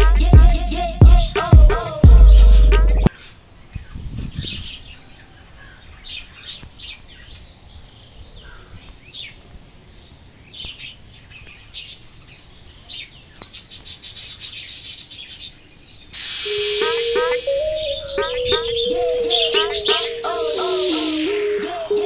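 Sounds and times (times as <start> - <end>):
birds chirping: 2.2 - 22.0.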